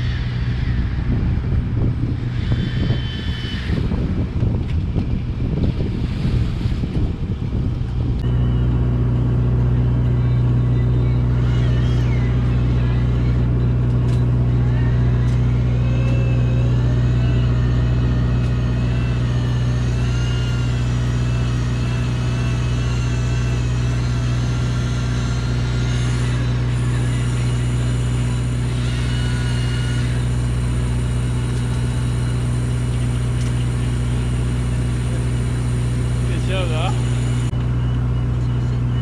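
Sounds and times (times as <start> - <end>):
electric fishing reel whine: 0.0 - 4.6, 8.2 - 39.0
boat engine humming: 0.0 - 39.0.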